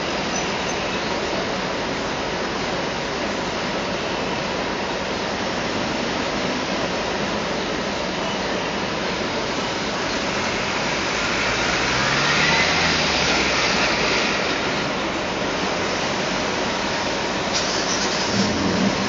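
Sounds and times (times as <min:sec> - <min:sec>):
bus engine and fan drone: 0:00.0 - 0:19.0.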